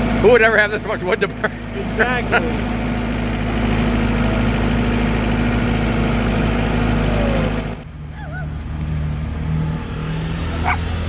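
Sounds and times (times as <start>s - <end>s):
quieter engine hum: 0.0s - 11.0s
tractor engine idling: 0.0s - 11.0s.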